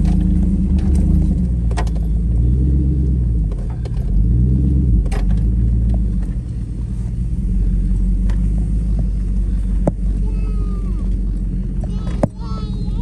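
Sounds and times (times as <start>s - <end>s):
suv engine running low: 0.0s - 13.0s.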